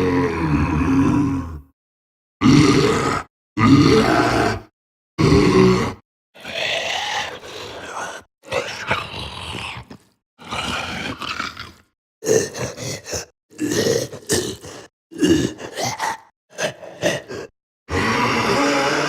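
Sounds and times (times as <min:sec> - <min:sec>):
monster groans and growls: 0:00.0 - 0:01.7, 0:02.4 - 0:19.0.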